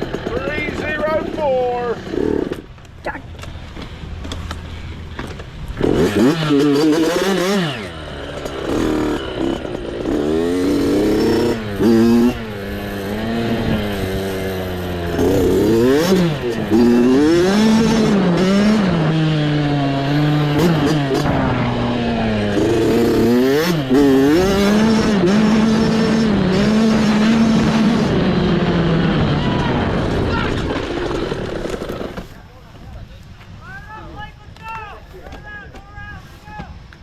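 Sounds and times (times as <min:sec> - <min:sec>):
dirt bike engine revving: 0:00.0 - 0:32.4.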